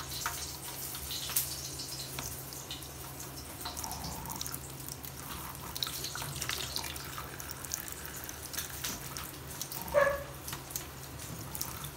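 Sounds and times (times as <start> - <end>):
tap water running into sink: 0.0 - 11.9
water splashes and drips: 0.0 - 11.9.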